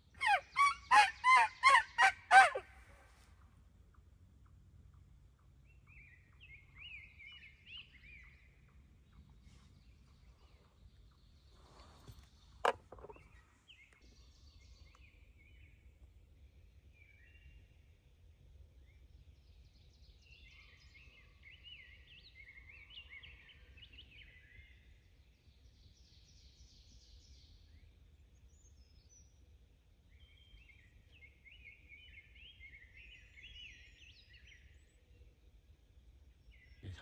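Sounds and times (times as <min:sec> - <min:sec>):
songbird singing: 0:00.0 - 0:02.9, 0:03.5 - 0:37.0.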